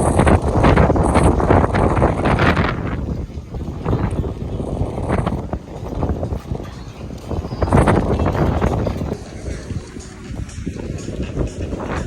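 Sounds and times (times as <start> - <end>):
faint music: 0.0 - 12.0
wind buffeting microphone: 0.0 - 12.0.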